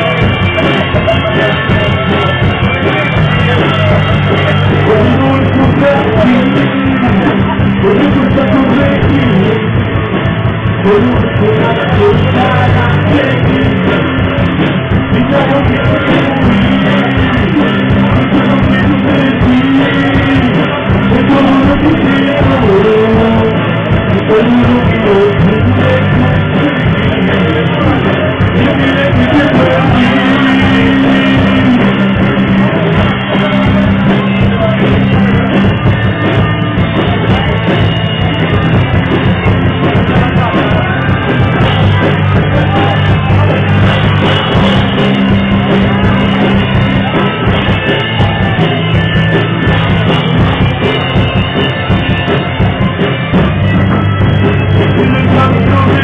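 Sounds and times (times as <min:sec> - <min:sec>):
person singing: 0:00.0 - 0:56.0
rock band playing live: 0:00.0 - 0:56.0.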